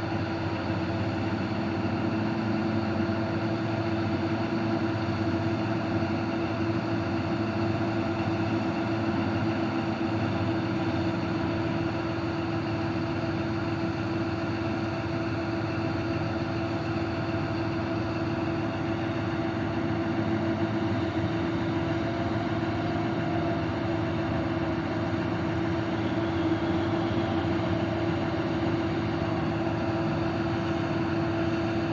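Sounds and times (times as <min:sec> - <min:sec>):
truck engine droning: 0:00.0 - 0:31.9.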